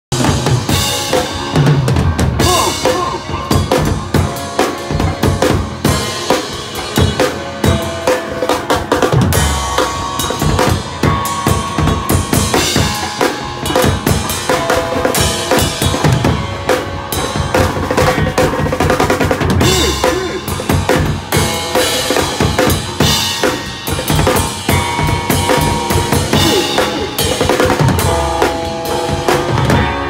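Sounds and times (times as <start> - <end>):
distorted bass guitar: 0.1 - 30.0
drum kit played fast and hard: 0.1 - 30.0.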